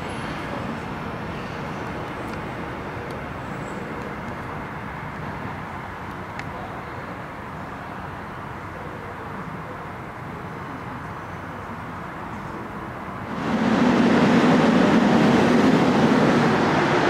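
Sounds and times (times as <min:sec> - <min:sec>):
electric train rolling on track: 0:00.0 - 0:08.7, 0:11.9 - 0:17.0.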